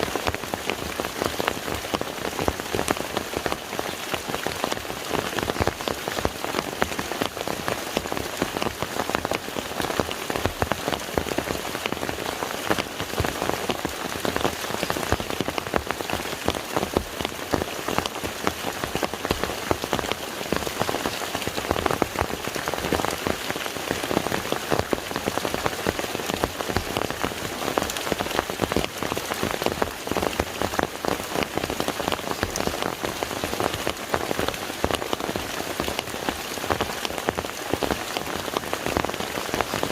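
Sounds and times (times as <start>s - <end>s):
rain falling on lake water: 0.0s - 39.9s.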